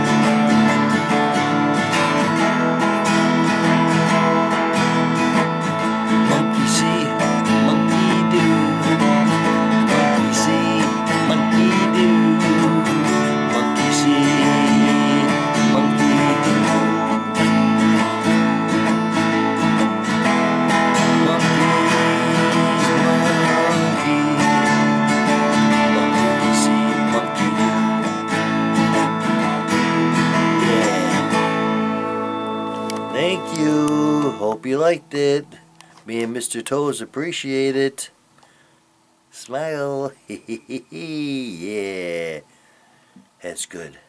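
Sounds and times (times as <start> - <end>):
acoustic guitar strumming chords: 0.0 - 38.6.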